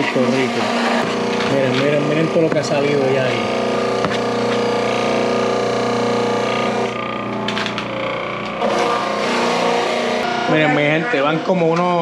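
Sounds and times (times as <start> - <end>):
electric grating machine humming: 0.0 - 12.0.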